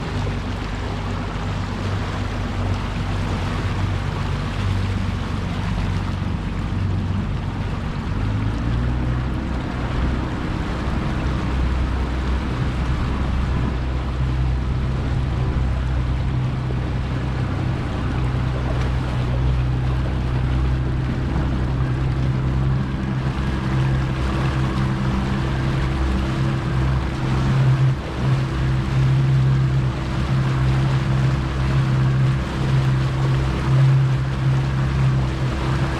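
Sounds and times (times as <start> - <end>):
outboard motor running hard: 0.0 - 35.9
wind and water rushing: 0.0 - 35.9.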